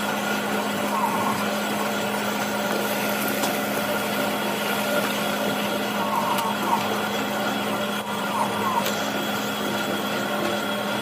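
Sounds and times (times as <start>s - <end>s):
motor humming and whirring: 0.0s - 11.0s.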